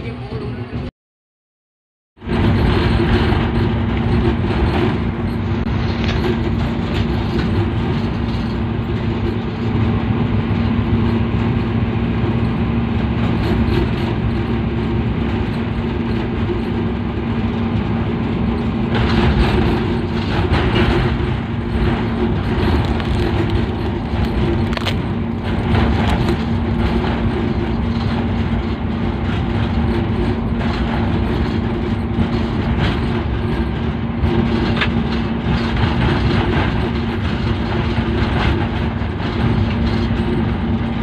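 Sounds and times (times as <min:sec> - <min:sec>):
locomotive engine drone: 0:00.0 - 0:00.9, 0:02.2 - 0:41.0
wheel and rail noise: 0:00.0 - 0:00.9, 0:02.2 - 0:41.0.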